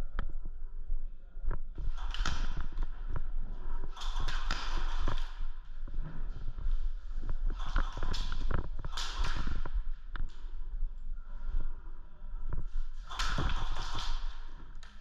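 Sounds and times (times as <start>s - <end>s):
irregular footsteps: 1.5s - 11.8s, 12.4s - 15.0s.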